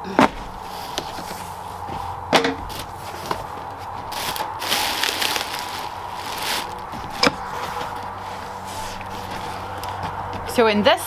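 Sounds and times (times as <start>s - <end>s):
plastic bags rustling and crinkling: 0.0s - 10.6s.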